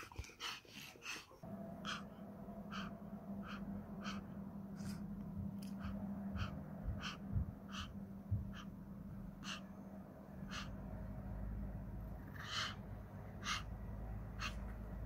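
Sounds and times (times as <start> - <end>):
small dog panting: 0.0 - 11.2, 12.0 - 15.0
faint low hum: 1.3 - 15.0.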